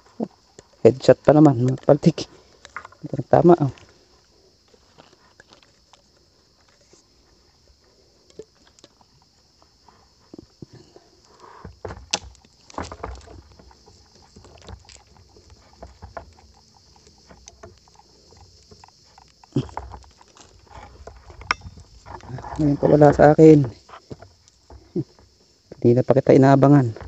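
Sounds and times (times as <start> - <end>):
leaves and twigs rustling: 0.0 - 27.0.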